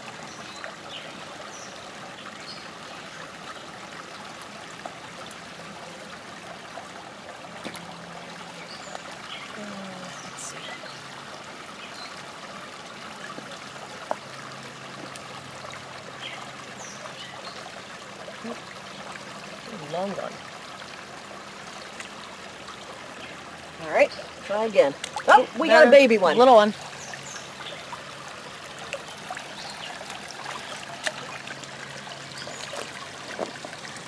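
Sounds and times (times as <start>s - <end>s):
creek trickling over stones: 0.0s - 34.0s.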